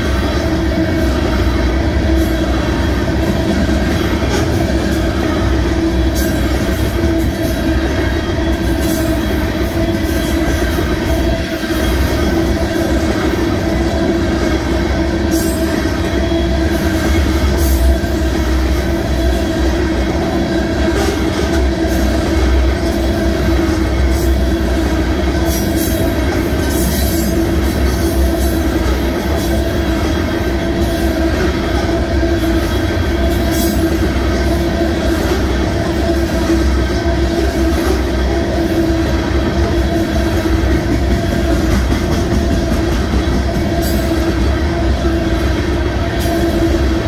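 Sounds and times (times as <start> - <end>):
steel wheels rumbling on rail: 0.0 - 47.0.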